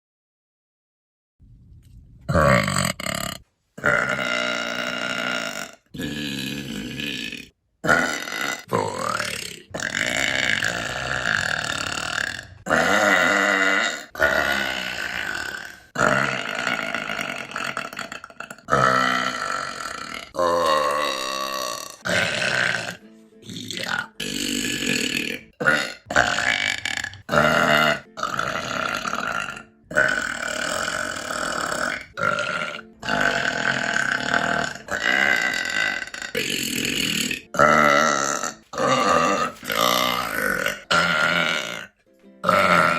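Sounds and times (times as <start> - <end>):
woman burping: 2.3 - 42.9.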